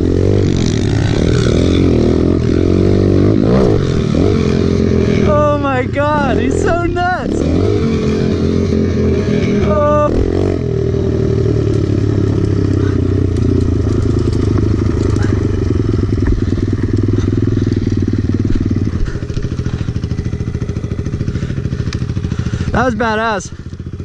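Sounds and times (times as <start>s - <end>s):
small motorcycle engine running: 0.0s - 24.0s.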